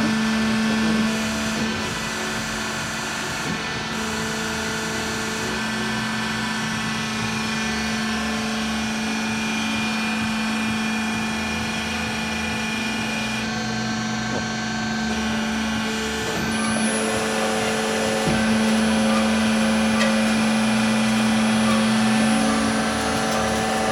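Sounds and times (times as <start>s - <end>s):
band saw humming with high whine: 0.0s - 23.9s.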